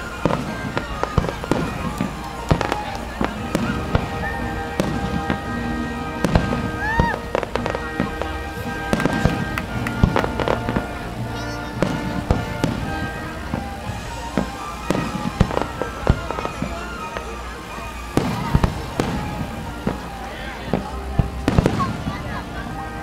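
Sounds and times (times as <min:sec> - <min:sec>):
fireworks bangs and crackles: 0:00.0 - 0:23.0
music: 0:00.0 - 0:23.0.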